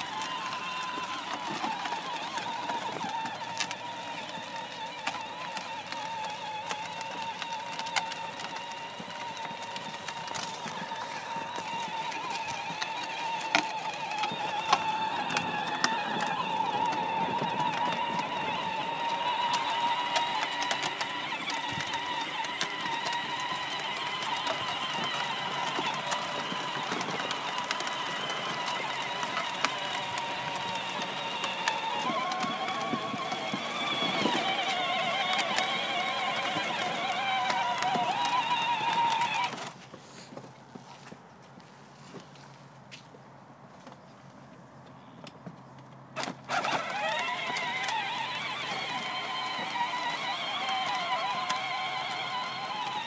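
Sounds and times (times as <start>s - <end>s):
electric toy motor whining: 0.0s - 39.8s, 46.2s - 53.0s.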